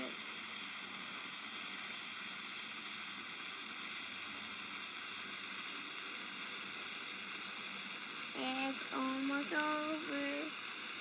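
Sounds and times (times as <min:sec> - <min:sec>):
sparkler firework hissing: 0:00.0 - 0:11.0.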